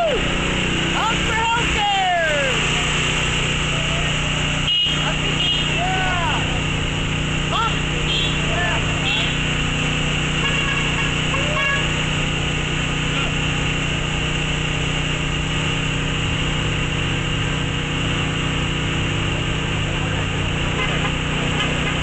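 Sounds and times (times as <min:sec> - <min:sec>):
small motor droning: 0:00.0 - 0:22.0.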